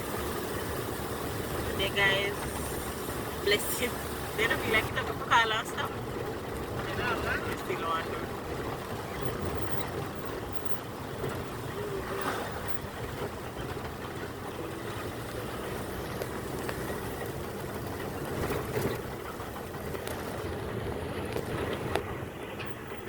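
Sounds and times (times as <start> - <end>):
car engine: 0.0 - 23.0
tyres on wet road: 0.0 - 23.0.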